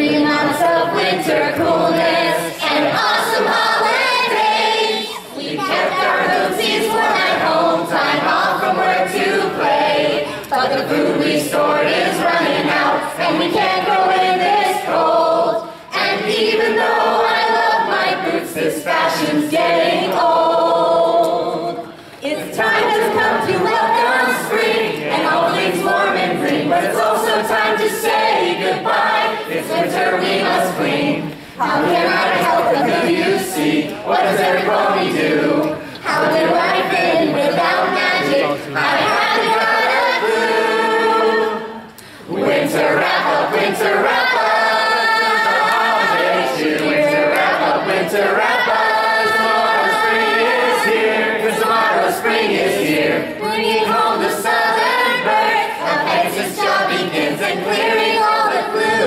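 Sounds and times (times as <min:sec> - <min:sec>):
group singing a cappella: 0:00.0 - 0:59.0.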